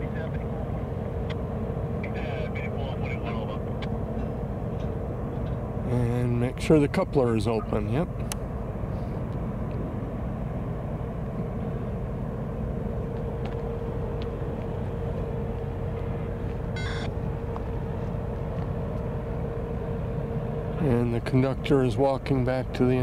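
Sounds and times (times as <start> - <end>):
steady hum: 0.0 - 23.0
train diesel engines idling: 0.0 - 23.0.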